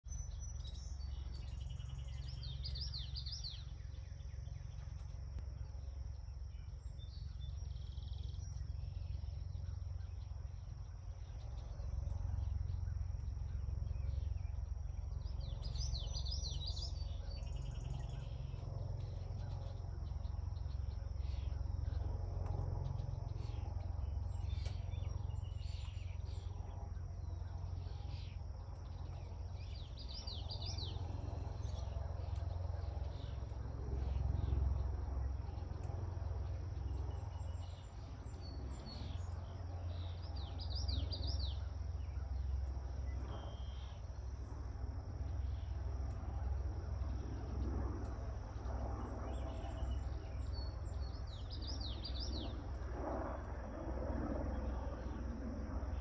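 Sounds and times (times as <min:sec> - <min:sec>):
constant low rumble: 0:00.0 - 0:56.0
songbird chirping: 0:00.0 - 0:56.0
high insect drone: 0:00.1 - 0:56.0.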